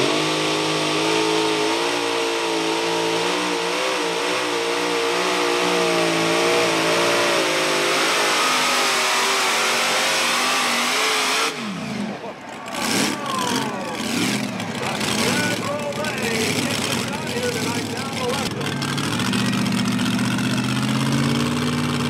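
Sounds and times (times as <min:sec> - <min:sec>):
tractor engines running hard: 0:00.0 - 0:22.0.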